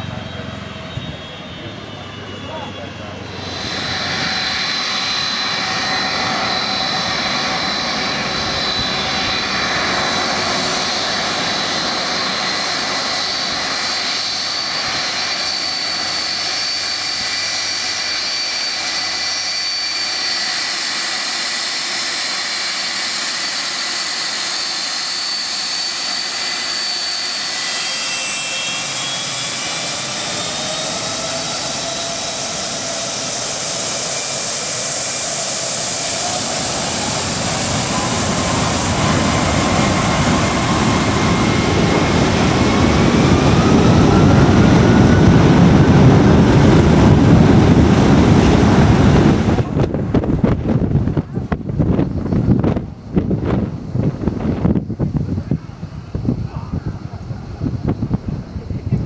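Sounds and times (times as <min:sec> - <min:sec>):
jet engines at takeoff power: 0:00.0 - 0:59.0
rising jet engine whines: 0:00.0 - 0:59.0.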